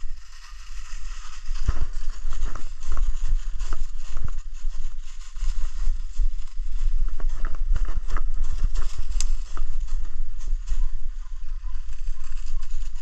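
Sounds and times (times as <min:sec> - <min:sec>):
footsteps on frozen leaves and snow: 0:00.0 - 0:13.0
low microphone rumble: 0:00.0 - 0:13.0.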